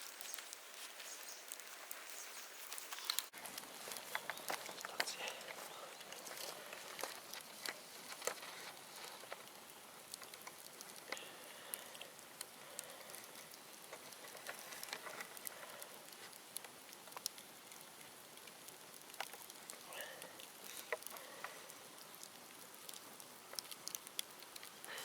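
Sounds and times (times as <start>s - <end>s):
bamboo bonfire crackling and popping: 0.0s - 25.0s.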